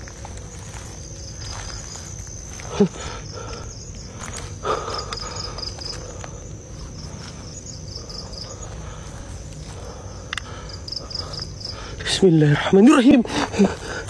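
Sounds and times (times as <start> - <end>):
night insects chirping: 0.0 - 14.0
steady high insect trill: 0.0 - 14.0.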